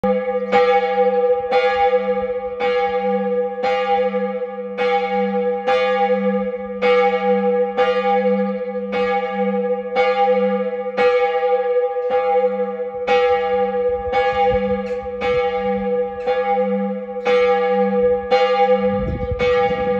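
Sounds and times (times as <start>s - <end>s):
church bell striking: 0.0s - 19.9s.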